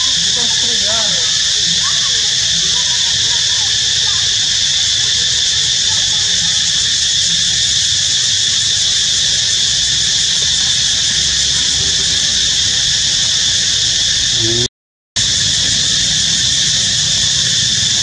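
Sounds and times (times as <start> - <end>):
high-pitched insect chorus drone: 0.0 - 18.0.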